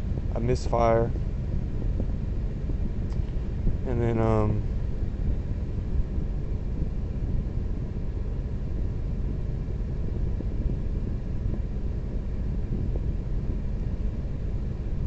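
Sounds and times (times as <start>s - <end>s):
vehicle rumble from inside cabin: 0.0s - 15.0s.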